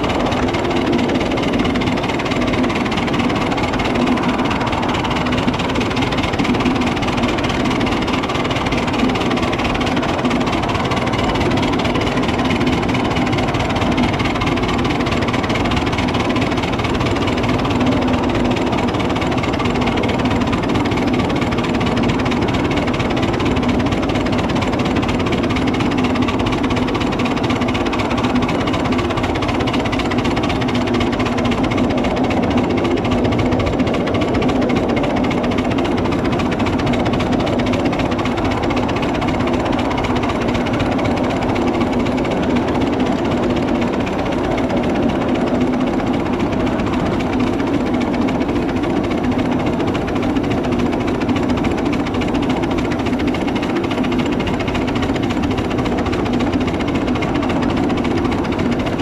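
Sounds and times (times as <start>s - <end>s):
miniature steam train running: 0.0s - 59.0s.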